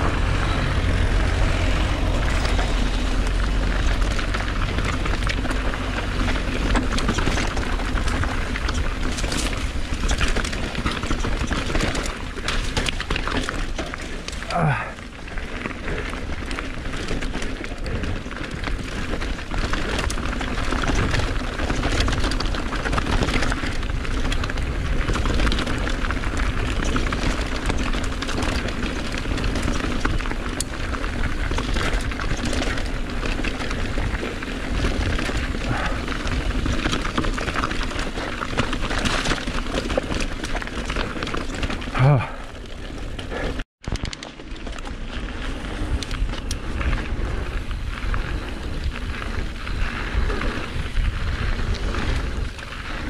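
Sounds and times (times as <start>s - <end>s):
bike clicks and rattles: 0.0s - 53.0s
tyres on dirt and stones: 0.0s - 53.0s.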